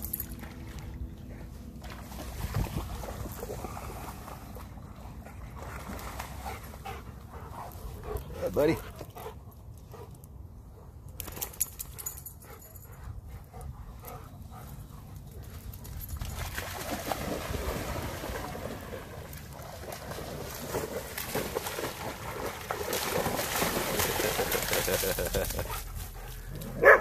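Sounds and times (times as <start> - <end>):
dogs splashing through water: 0.0 - 9.4, 14.7 - 27.0.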